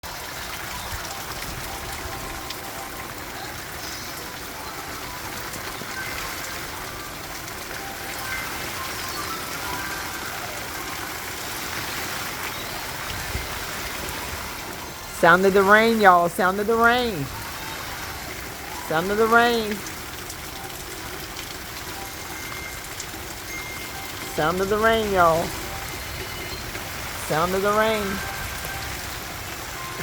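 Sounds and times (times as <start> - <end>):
steady rain hissing: 0.1 - 30.0.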